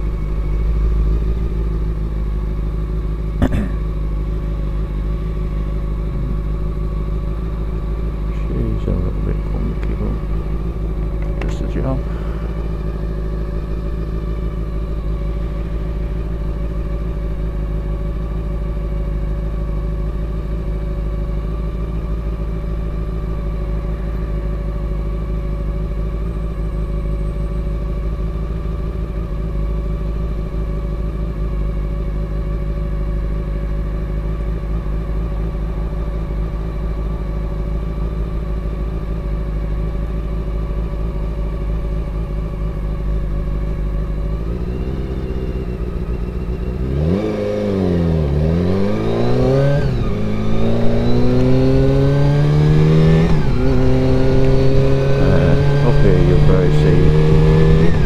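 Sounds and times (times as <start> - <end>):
motorcycle engine idling: 0.0 - 48.6.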